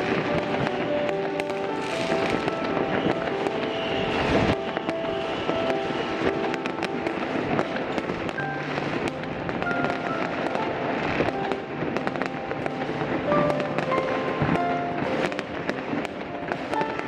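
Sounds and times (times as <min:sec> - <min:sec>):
classical music: 0:00.0 - 0:17.0
fireworks popping and crackling: 0:00.0 - 0:17.0.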